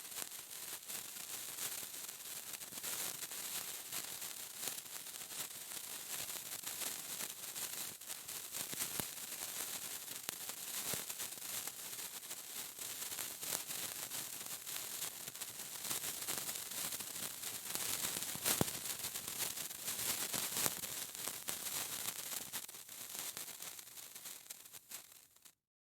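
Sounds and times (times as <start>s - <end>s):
sparkler fizzing and crackling: 0.0s - 25.6s.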